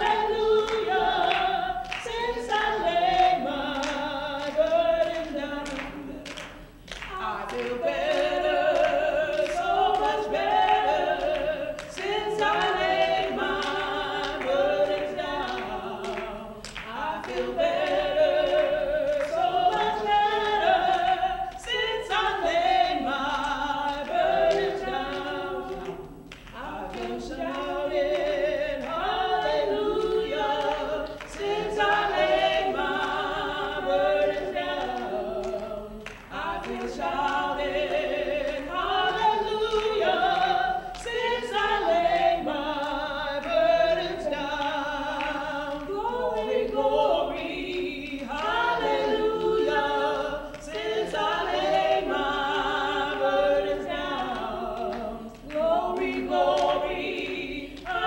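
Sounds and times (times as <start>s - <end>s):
group singing a hymn a cappella: 0.0s - 58.0s
hand clapping: 0.0s - 58.0s.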